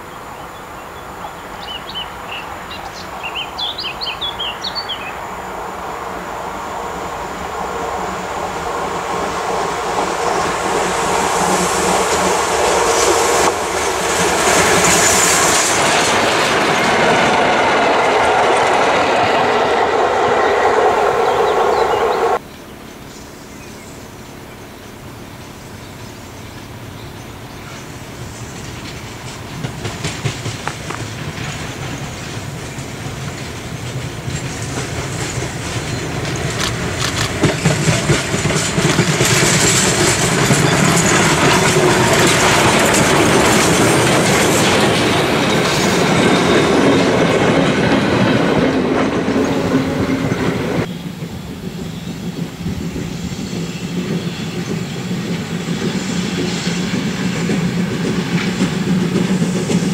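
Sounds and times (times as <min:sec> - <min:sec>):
steam train passing: 0:00.0 - 0:59.9
wheels clacking over rail joints: 0:07.5 - 0:22.4, 0:26.5 - 0:59.9.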